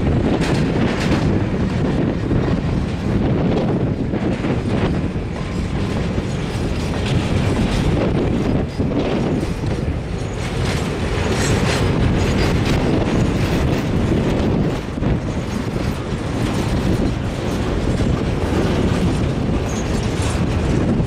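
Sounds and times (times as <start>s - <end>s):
train wheels rumbling on rails: 0.0s - 21.0s
wheels clicking over rail joints: 0.0s - 21.0s.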